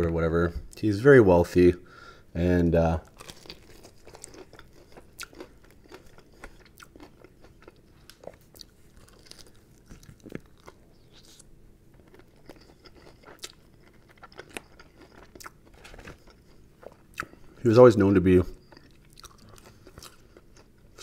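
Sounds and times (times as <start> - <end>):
man chewing chicken wing: 3.1 - 17.6, 18.6 - 21.0.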